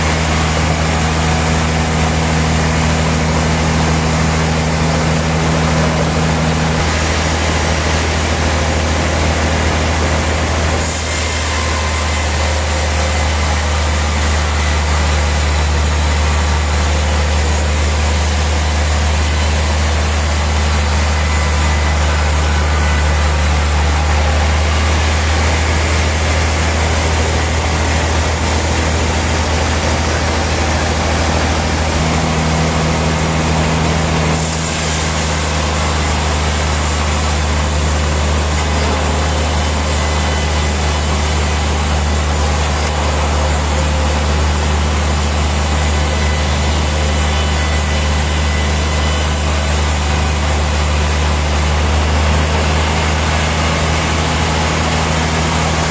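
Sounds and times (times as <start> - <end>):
heavy machinery humming: 0.0 - 55.9.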